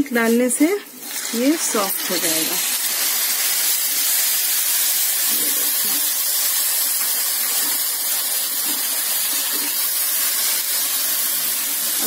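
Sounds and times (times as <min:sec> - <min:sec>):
milk sizzling in a hot pan: 0:00.0 - 0:12.0.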